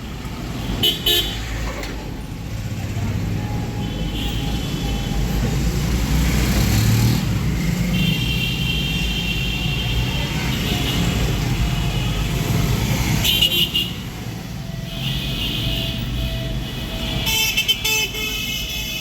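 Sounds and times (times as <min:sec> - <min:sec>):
rumble of passing vehicles: 0:00.0 - 0:19.0.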